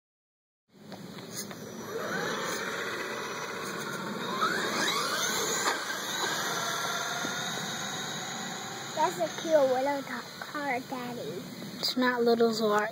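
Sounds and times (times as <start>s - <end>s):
electric motor and gear whine: 0.8s - 12.9s.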